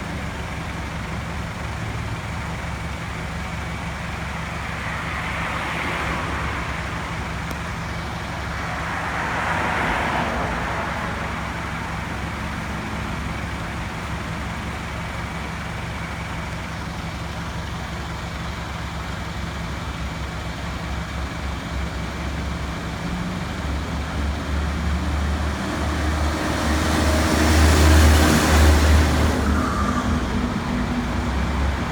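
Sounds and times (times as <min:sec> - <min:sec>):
road noise: 0:00.0 - 0:31.9
vehicle engine running: 0:00.0 - 0:31.9.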